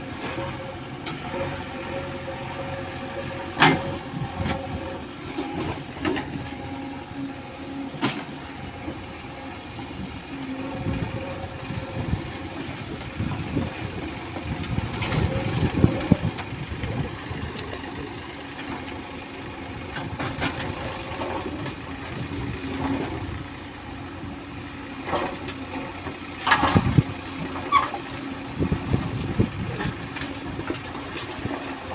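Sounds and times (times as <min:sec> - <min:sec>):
heavy machinery engine running: 0:00.0 - 0:31.9.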